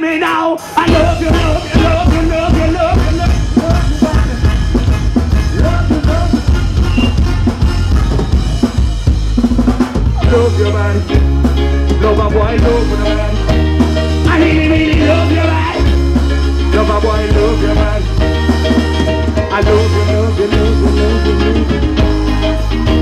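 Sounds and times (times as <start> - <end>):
live band playing upbeat groove: 0.0 - 23.0.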